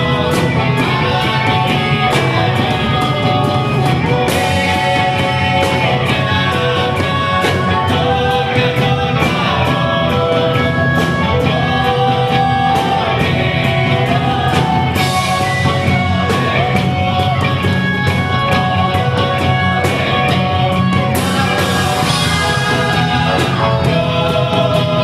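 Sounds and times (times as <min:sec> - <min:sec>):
person singing: 0:00.0 - 0:25.0
rock band playing: 0:00.0 - 0:25.0.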